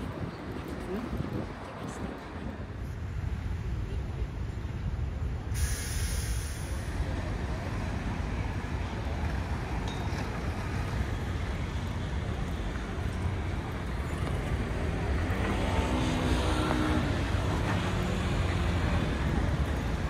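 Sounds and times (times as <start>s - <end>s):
buses rumbling: 0.0s - 20.0s
steady engine hum: 0.0s - 20.0s
street traffic noise: 0.0s - 20.0s.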